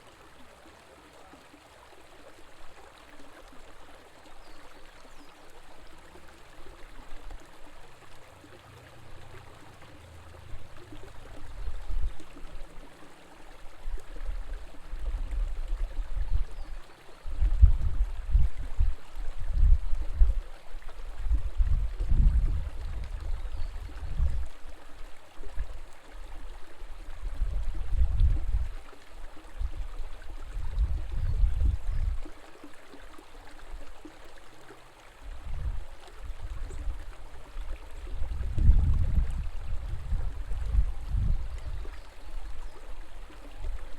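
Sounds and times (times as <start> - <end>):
river water flowing: 0.0 - 43.9.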